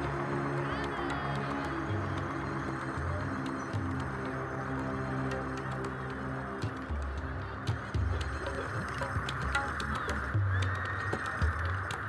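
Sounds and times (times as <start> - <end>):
background music with low notes: 0.0 - 12.0.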